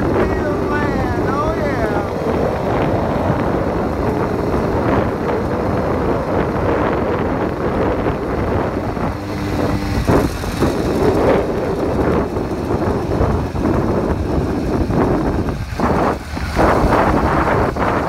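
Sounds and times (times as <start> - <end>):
small motorbike engine running: 0.0 - 18.0
wind buffeting microphone: 0.0 - 18.0.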